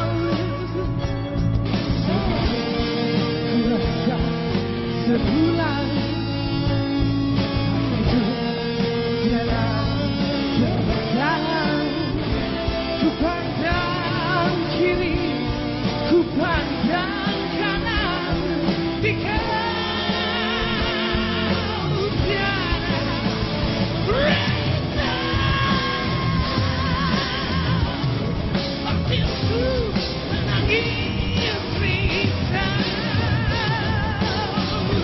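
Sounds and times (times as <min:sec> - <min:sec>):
rock band music with singing: 0:00.0 - 0:35.0.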